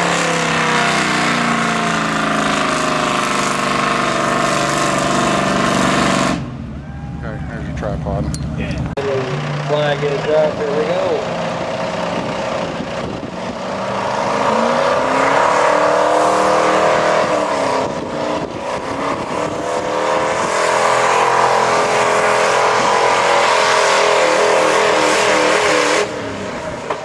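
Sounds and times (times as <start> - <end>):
truck engine revving under load: 0.0 - 27.0.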